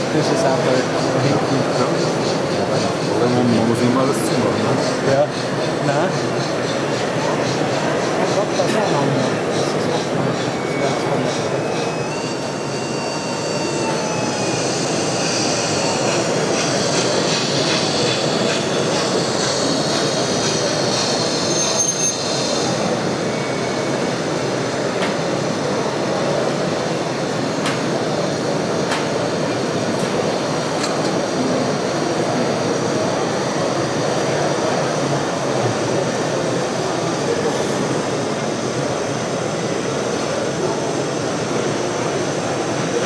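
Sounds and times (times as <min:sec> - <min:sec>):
train rumble: 0:00.0 - 0:43.0.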